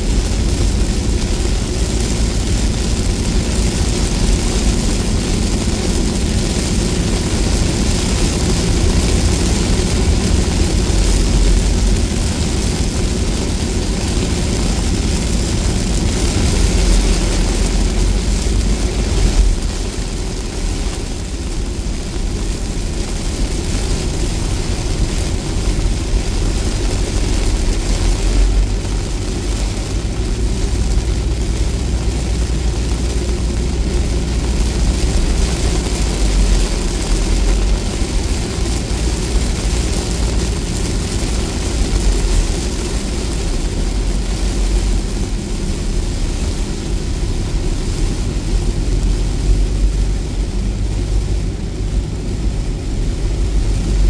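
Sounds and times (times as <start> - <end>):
heavy rain on car windshield: 0.0 - 54.0
low rumble of car driving: 0.0 - 54.0.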